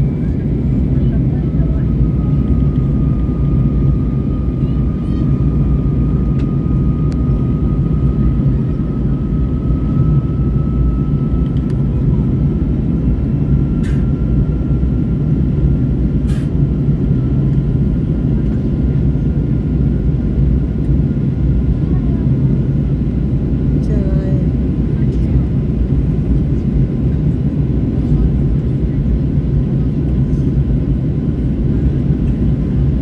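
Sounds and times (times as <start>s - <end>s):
airplane engines and airflow rumble: 0.0s - 33.0s.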